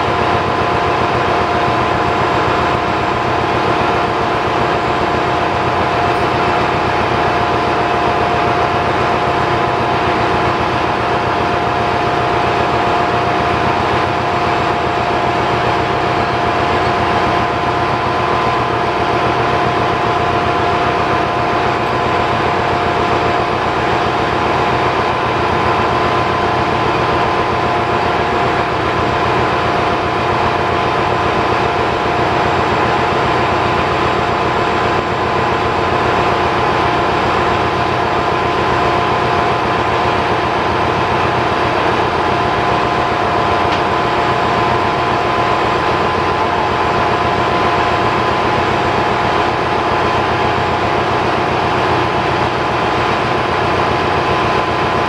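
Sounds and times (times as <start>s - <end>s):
diesel engine machinery running: 0.0s - 55.0s.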